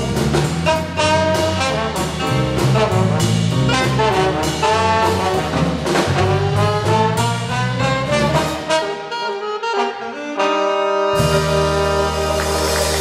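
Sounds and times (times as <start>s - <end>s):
big band rhythm section: 0.0s - 13.0s
saxophone and trombone jazz line: 0.0s - 13.0s.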